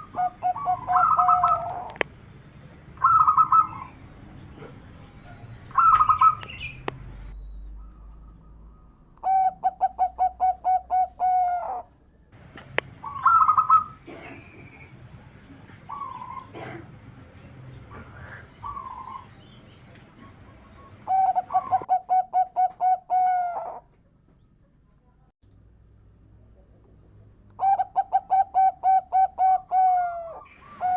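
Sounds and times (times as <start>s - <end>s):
dove staccato cooing song: 0.0s - 2.1s, 2.9s - 7.0s, 7.7s - 24.7s, 26.6s - 30.9s.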